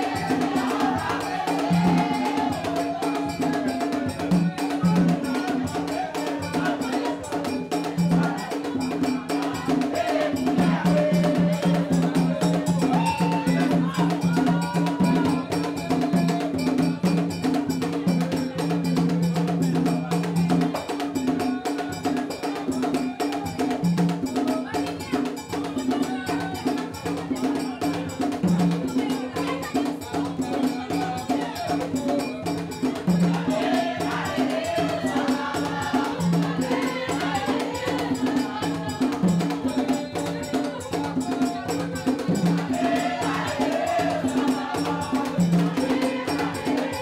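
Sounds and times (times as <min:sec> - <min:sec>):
rapid hand percussion: 0:00.0 - 0:47.0
voices singing: 0:00.0 - 0:47.0.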